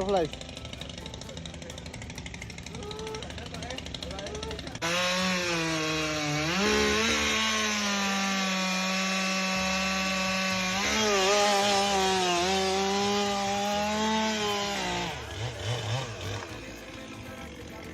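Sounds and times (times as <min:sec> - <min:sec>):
chainsaw cutting wood: 0:00.0 - 0:17.9.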